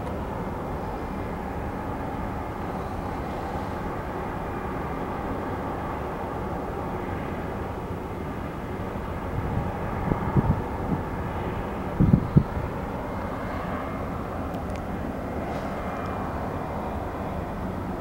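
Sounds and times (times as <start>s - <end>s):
diesel locomotive drone: 0.0s - 18.0s.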